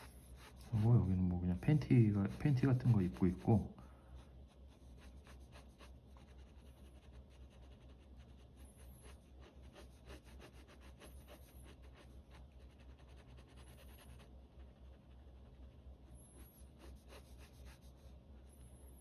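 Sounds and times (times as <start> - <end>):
pen scratching on paper: 0.0 - 3.6, 4.5 - 18.1
low steady hum: 0.0 - 19.0.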